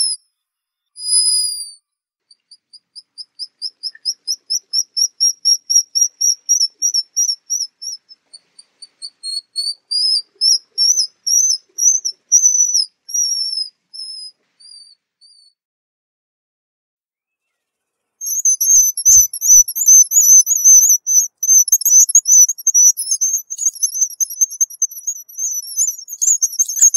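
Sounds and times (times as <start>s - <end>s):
bird whistling call: 1.0s - 1.8s, 3.0s - 15.6s, 18.2s - 26.9s.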